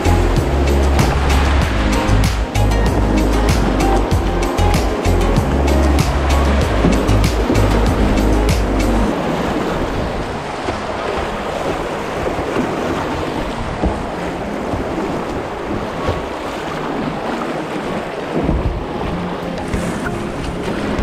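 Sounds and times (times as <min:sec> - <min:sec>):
whitewater rushing over rocks: 0:00.0 - 0:21.0
wind on microphone: 0:00.0 - 0:21.0.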